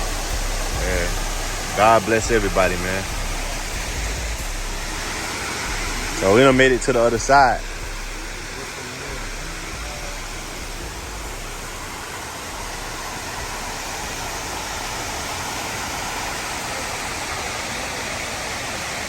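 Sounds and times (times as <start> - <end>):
water pouring down walls: 0.0 - 19.0.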